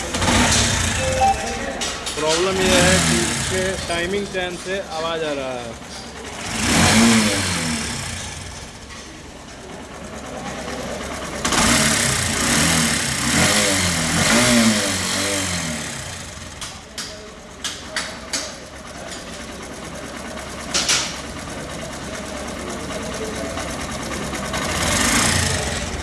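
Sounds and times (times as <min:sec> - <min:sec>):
motorcycle engine revving: 0:00.0 - 0:01.1, 0:01.8 - 0:26.0.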